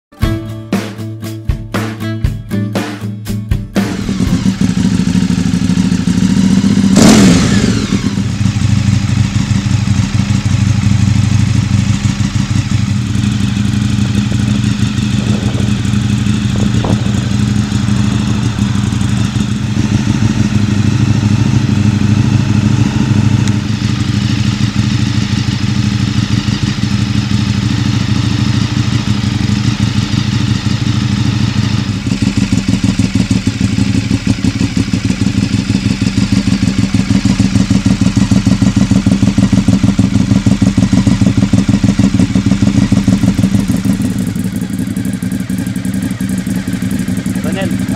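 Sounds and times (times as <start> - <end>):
motorcycle engine running: 3.5 - 47.9.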